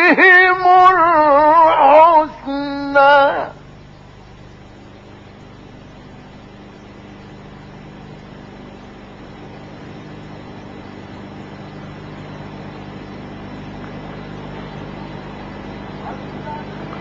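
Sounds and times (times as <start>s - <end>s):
low mains hum: 0.0s - 17.0s.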